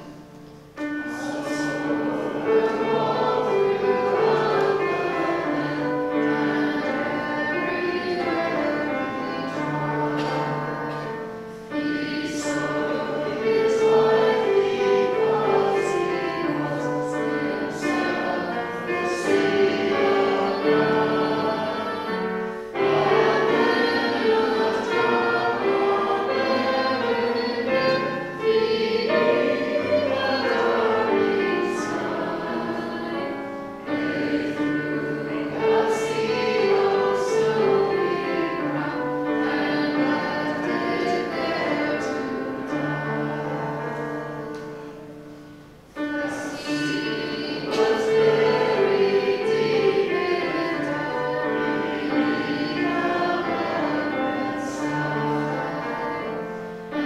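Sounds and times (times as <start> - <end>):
slow church music with choir: 0.0 - 57.0.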